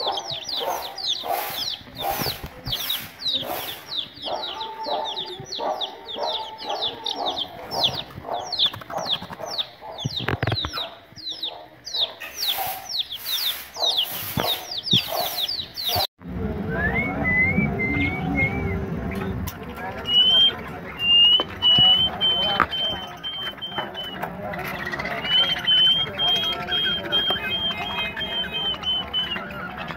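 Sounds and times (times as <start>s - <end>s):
chicks peeping: 0.0s - 16.1s, 17.8s - 29.9s.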